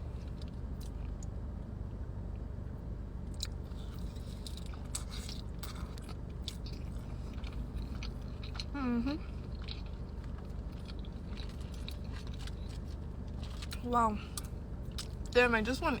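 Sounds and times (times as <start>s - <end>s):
steady low hum: 0.0s - 16.0s
chewing soft food: 0.2s - 1.4s, 3.3s - 15.4s.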